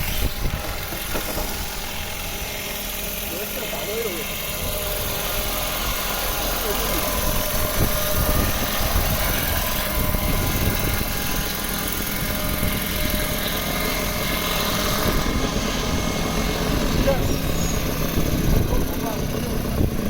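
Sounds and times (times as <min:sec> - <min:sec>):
helicopter rotors whirring: 0:00.0 - 0:20.0.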